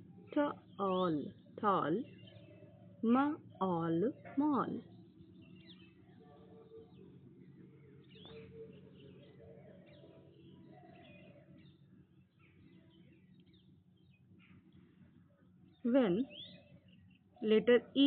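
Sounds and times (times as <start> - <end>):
faint birds chirping: 0.0 - 18.0
low steady hum: 0.0 - 18.0.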